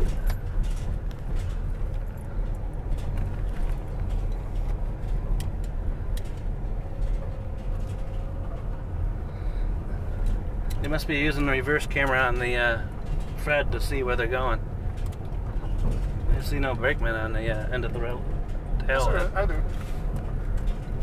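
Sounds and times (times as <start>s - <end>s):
car rumbling on gravel road: 0.0s - 21.0s.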